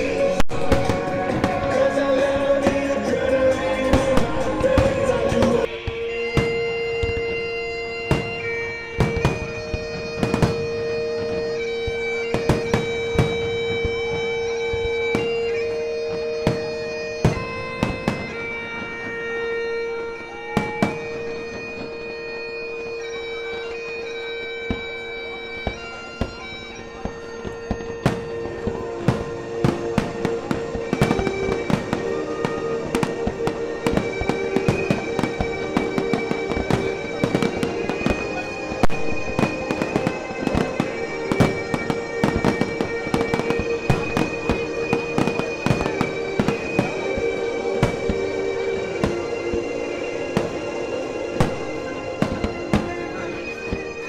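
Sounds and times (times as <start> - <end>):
fireworks bangs and crackles: 0.0 - 54.0
music with held drone: 0.0 - 54.0.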